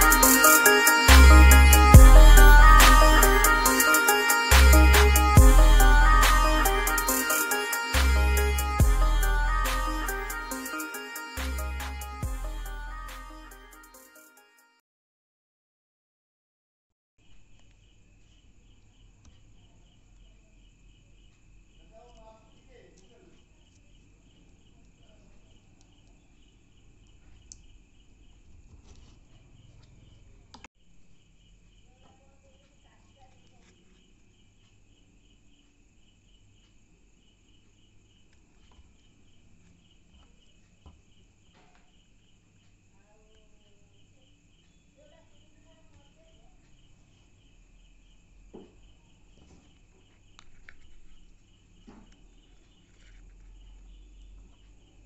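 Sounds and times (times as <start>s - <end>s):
faint cricket chirping: 0.0s - 14.5s, 17.2s - 55.0s.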